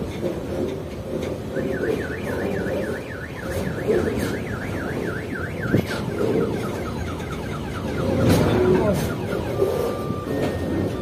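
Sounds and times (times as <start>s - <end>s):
freight train rumbling on rails: 0.0s - 11.0s
warbling electronic alarm: 1.5s - 11.0s.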